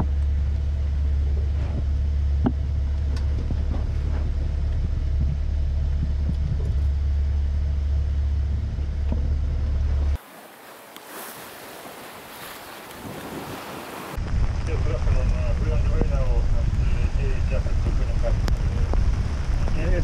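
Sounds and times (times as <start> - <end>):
low rumble aboard yacht: 0.0 - 20.0.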